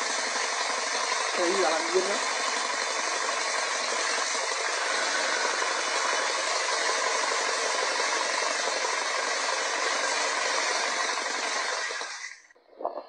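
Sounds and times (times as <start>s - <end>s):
power tool running: 0.0s - 12.5s.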